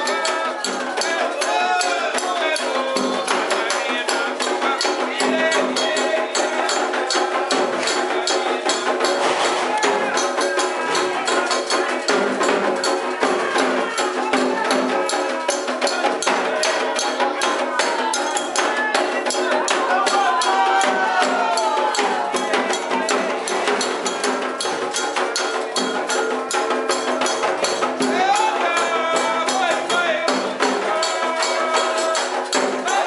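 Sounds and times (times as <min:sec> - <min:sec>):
clacking struck pattern: 0:00.0 - 0:33.0
hand percussion rhythm: 0:00.0 - 0:33.0
voices singing: 0:00.0 - 0:33.0.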